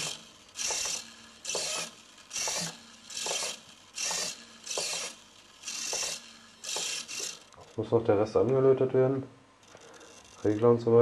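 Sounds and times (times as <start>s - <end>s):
servos whirring: 0.0s - 8.6s, 9.6s - 10.8s.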